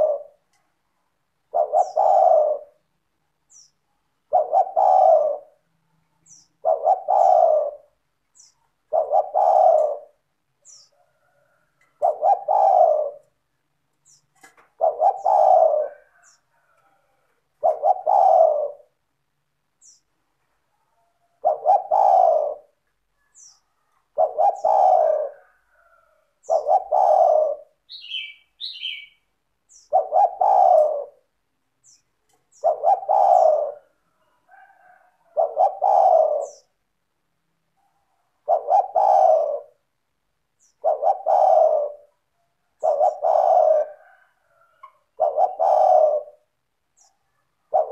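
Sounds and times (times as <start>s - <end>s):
dove cooing: 0.0s - 0.6s, 1.4s - 3.0s, 4.2s - 13.5s, 14.1s - 19.0s, 21.0s - 22.9s, 23.5s - 36.8s, 37.8s - 40.0s, 40.6s - 47.9s.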